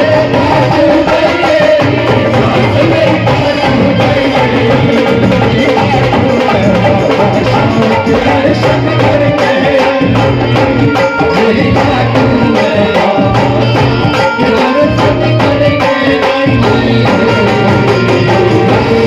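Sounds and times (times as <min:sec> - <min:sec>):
hand drum beat: 0:00.0 - 0:19.0
instrumental accompaniment: 0:00.0 - 0:19.0
man singing: 0:00.0 - 0:19.0.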